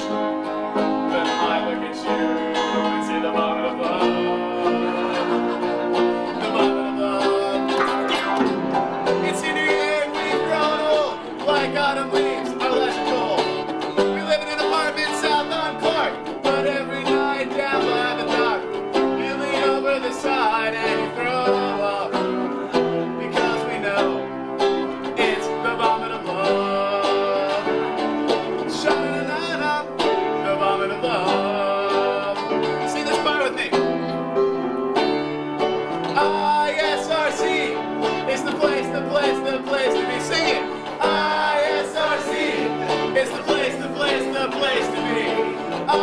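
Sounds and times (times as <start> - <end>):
upright piano: 0.0 - 46.0
plucked lute: 2.2 - 34.2, 35.0 - 46.0.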